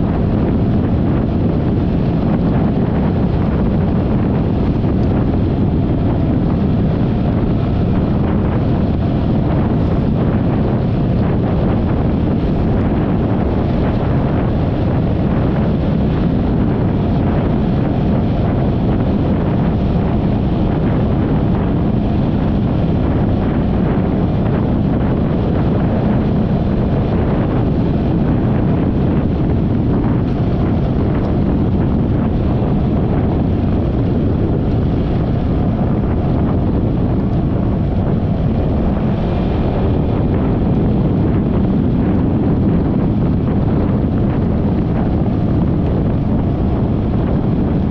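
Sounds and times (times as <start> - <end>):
wind rushing on microphone: 0.0 - 47.9.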